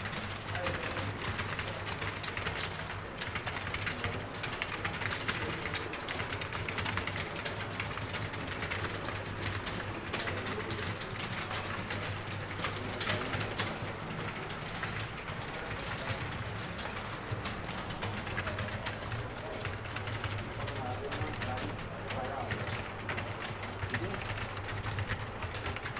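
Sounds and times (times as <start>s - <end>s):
keyboard typing: 0.0s - 25.9s.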